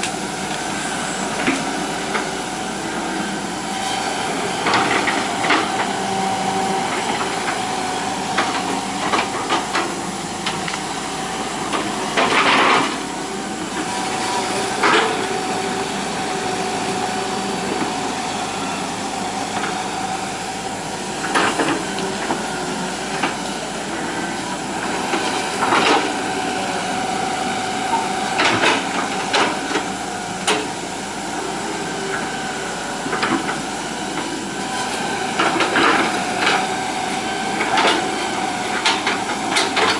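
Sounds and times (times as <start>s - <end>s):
excavator diesel engine whining: 0.0s - 39.9s.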